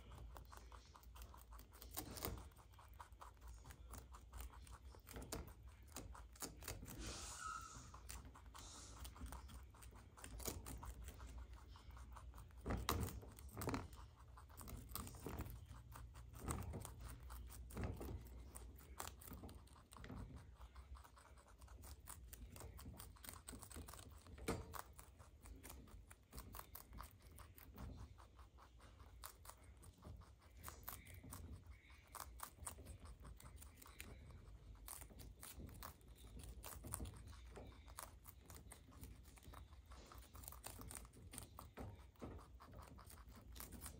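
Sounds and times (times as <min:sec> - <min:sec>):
rabbits chewing leaves: 0:00.0 - 0:43.9.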